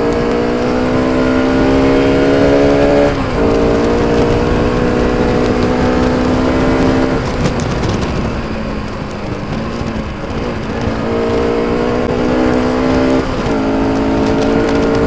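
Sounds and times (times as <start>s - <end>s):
motorcycle engine pulling: 0.0s - 15.0s
wind rumble on microphone: 0.0s - 15.0s.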